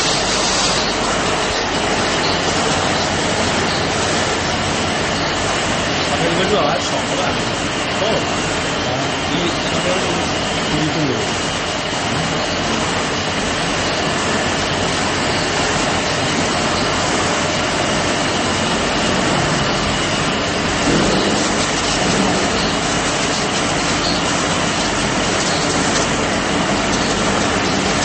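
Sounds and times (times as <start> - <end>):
faint high steady whine: 0.0 - 28.0
furnace line machine noise: 0.0 - 28.0.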